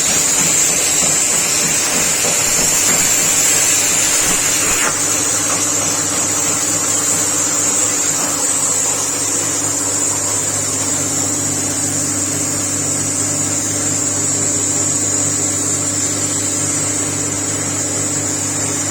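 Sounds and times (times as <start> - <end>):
machinery humming: 0.0 - 18.9.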